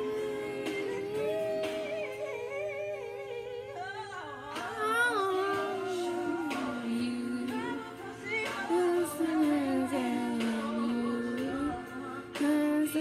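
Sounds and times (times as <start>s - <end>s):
music with person singing: 0.0s - 13.0s.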